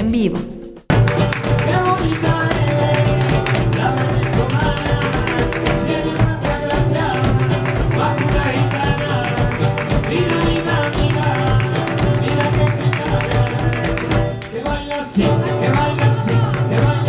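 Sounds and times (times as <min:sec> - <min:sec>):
flamenco guitar playing: 0:00.0 - 0:17.0
percussive clicks and claps: 0:00.9 - 0:17.0
person singing: 0:01.6 - 0:17.0.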